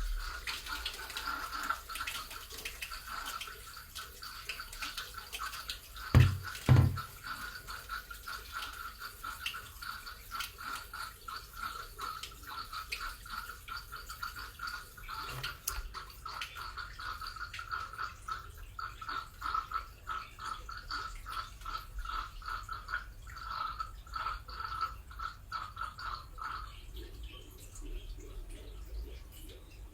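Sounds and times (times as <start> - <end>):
water trickling from a vessel: 0.0 - 29.9.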